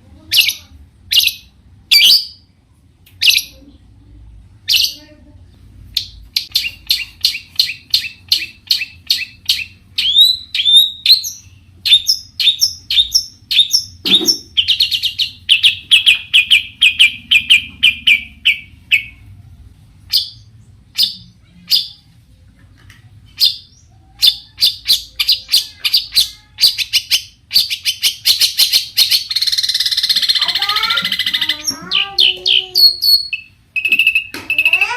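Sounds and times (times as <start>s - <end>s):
bird chirping and trilling: 0.2s - 2.5s, 3.2s - 3.7s, 4.6s - 5.2s, 5.9s - 19.3s, 20.1s - 22.1s, 23.3s - 34.9s.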